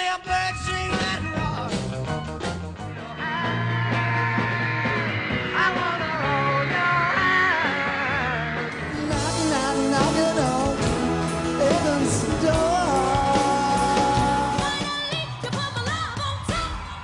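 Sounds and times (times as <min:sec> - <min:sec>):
rock music with man singing: 0:00.0 - 0:17.0.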